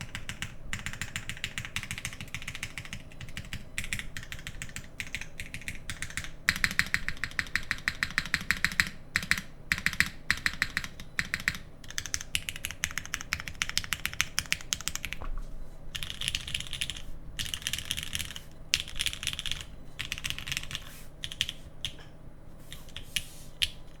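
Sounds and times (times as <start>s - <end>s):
mechanical keyboard typing: 0.0s - 15.2s, 15.9s - 22.1s.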